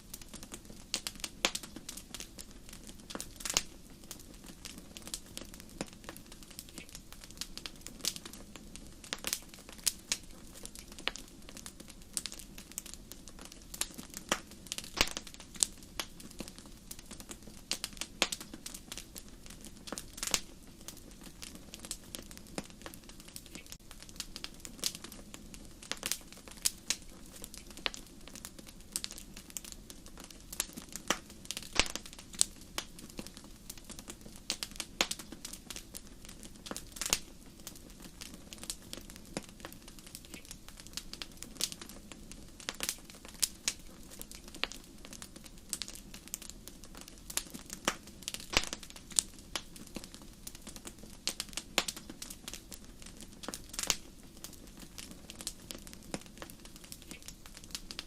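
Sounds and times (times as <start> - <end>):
low rush of flames: 0.0 - 58.0
wood fire crackling and popping: 0.0 - 58.0.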